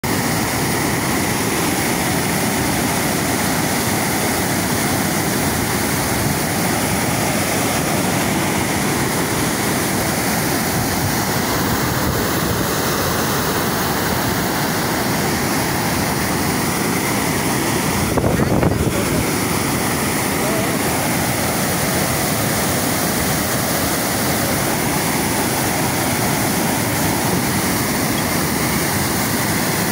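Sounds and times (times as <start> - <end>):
water rushing and churning: 0.0 - 29.9.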